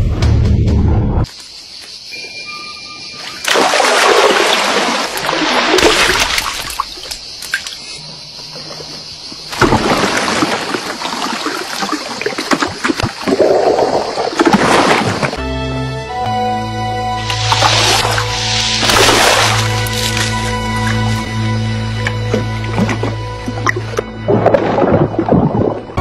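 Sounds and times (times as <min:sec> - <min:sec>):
water splashing and sloshing: 0:03.1 - 0:15.4, 0:17.2 - 0:26.0.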